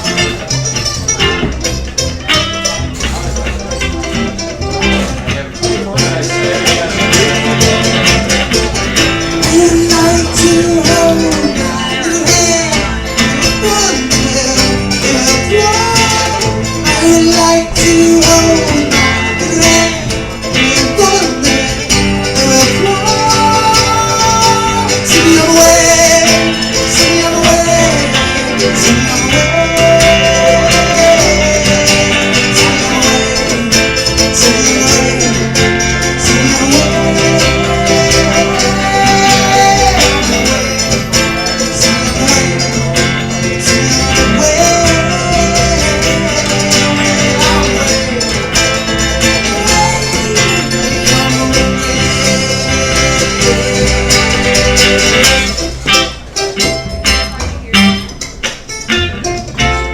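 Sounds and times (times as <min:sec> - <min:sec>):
guitar: 0:00.0 - 0:59.9
live band playing country tune: 0:00.0 - 0:59.9.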